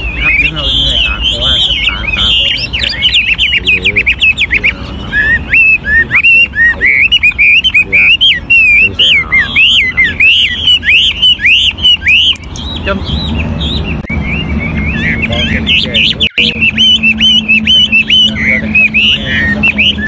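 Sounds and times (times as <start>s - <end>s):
bird singing whistled notes: 0.0s - 20.0s.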